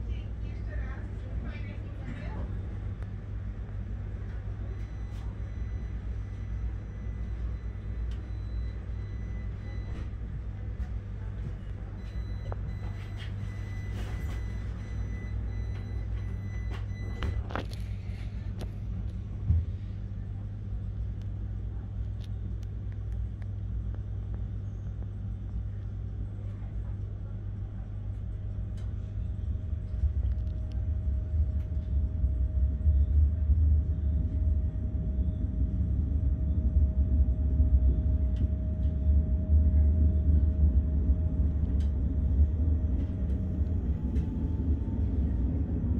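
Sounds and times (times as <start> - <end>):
train low hum and rumble: 0.0 - 45.9.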